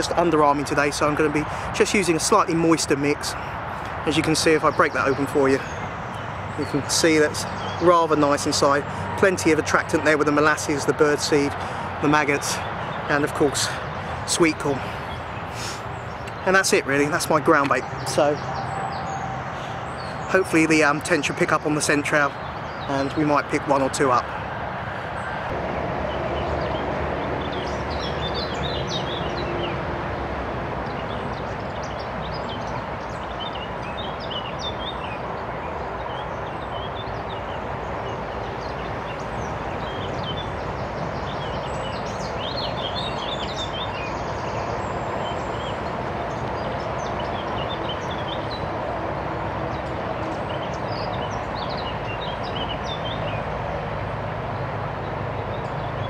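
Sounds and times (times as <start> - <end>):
birds chirping and singing: 0.0 - 56.0
road traffic hum: 0.0 - 56.0.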